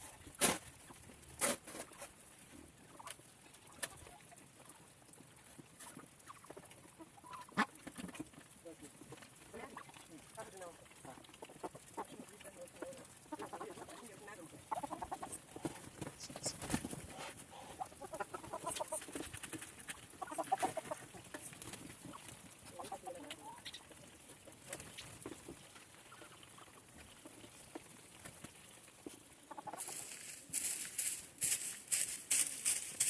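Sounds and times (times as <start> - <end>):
chickens clucking: 0.0 - 4.8, 5.4 - 30.8.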